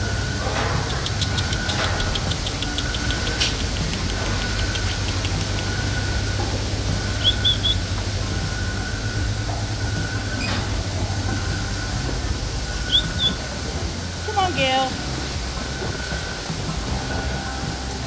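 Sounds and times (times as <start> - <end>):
milking machinery rumble and hum: 0.0 - 18.0.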